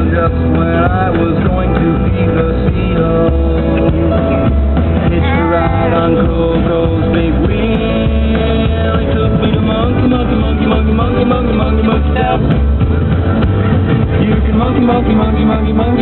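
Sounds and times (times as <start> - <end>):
rock song with guitar: 0.0 - 16.0.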